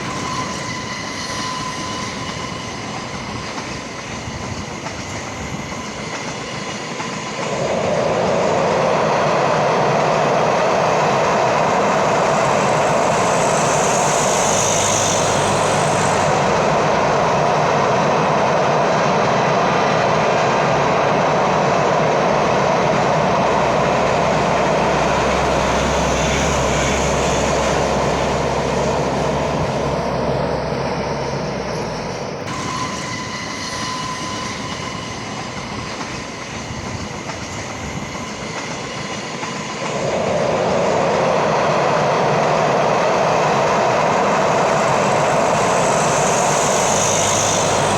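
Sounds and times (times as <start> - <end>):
high-pitched train squeals: 0.0 - 47.9
train rumbling past: 0.0 - 47.9.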